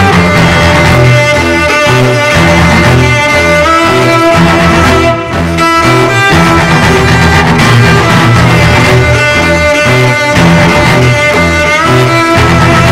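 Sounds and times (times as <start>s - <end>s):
violin and cello music: 0.0s - 12.9s.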